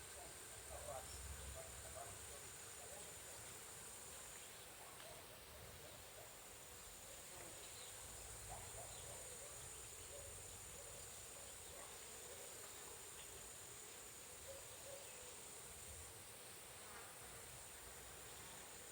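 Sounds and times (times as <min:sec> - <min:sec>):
insects trilling: 0:00.0 - 0:18.9.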